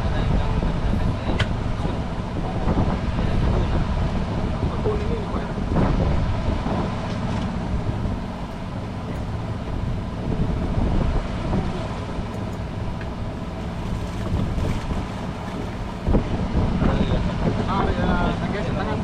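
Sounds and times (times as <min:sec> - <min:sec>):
boat engine low rumble: 0:00.0 - 0:19.0
wind buffeting microphone: 0:00.0 - 0:19.0.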